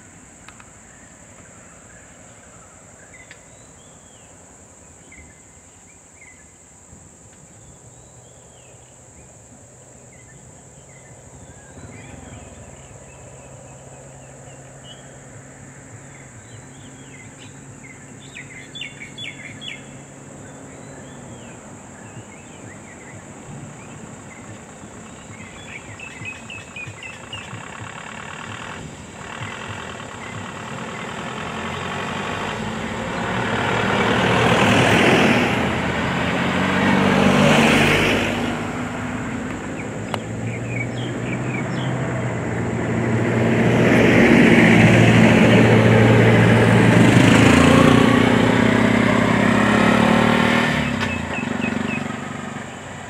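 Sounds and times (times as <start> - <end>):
high insect drone: 0.0 - 50.0
low engine hum: 0.0 - 53.0
cars idling close by: 7.2 - 53.0
birds chirping: 7.6 - 53.0.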